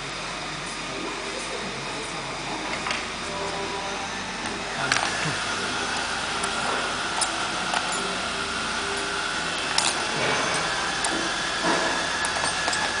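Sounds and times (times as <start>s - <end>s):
faint steady whine: 0.0s - 13.0s
mechanical running noise: 0.0s - 13.0s.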